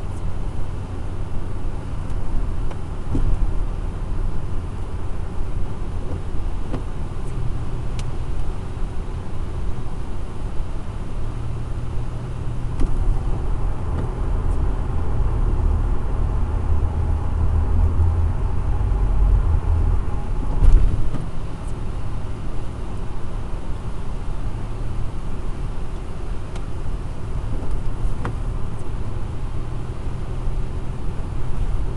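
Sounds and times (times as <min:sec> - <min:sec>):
car road noise rumble: 0:00.0 - 0:31.9.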